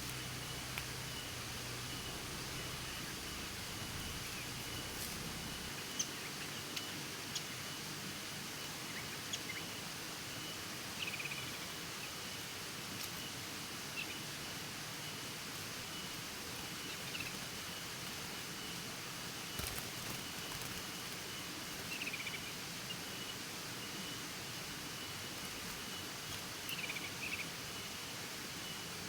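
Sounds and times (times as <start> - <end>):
outdoor hiss: 0.0 - 29.0.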